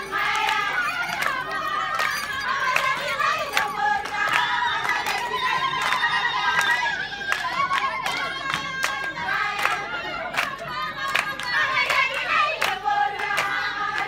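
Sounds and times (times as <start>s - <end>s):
hand claps: 0.0s - 14.0s
women singing together: 0.0s - 14.0s.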